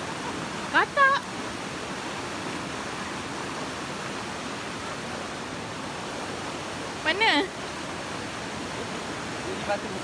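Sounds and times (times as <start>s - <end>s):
river rushing over stones: 0.0s - 10.0s.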